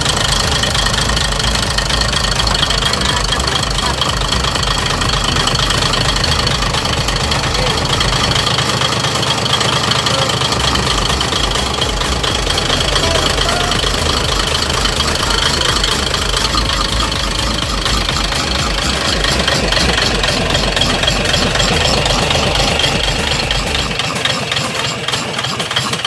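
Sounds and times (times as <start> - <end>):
engine idling with deep rumble: 0.0 - 26.0.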